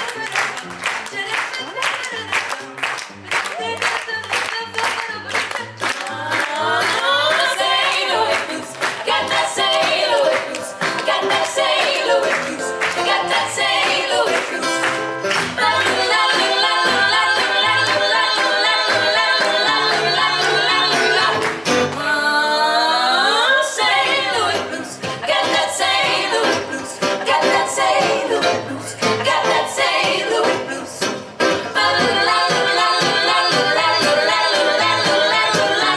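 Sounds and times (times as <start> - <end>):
bass: 0.0 - 35.9
women singing in harmony: 3.5 - 35.9.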